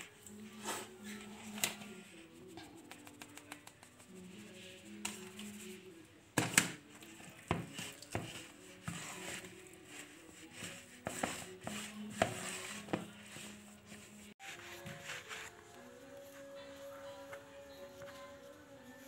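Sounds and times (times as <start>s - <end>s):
dough mixed by hand: 0.0s - 16.6s
faint background music: 0.0s - 19.0s.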